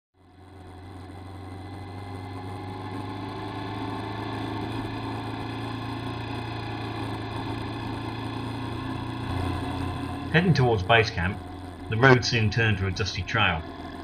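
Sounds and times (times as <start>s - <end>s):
low hum: 0.2s - 14.0s
motorcycle engine running: 0.2s - 14.0s
road and wind noise: 0.2s - 14.0s.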